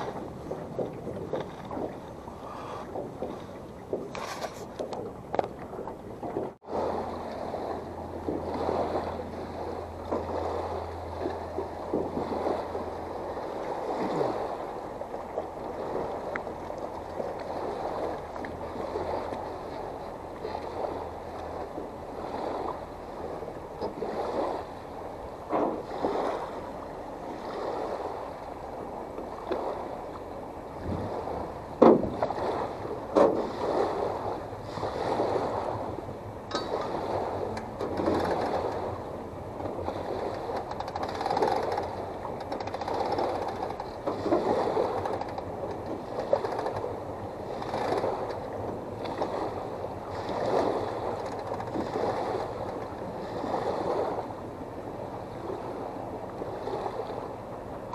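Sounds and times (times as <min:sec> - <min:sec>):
waves lapping against boat hull: 0:00.0 - 0:57.9.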